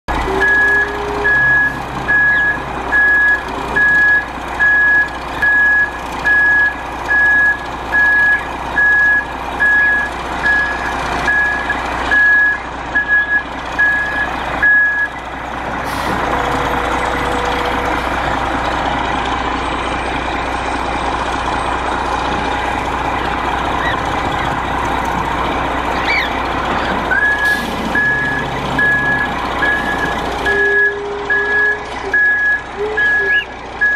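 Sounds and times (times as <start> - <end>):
truck engine running: 0.0 - 33.9
truck reversing alarm beeping: 0.1 - 33.9.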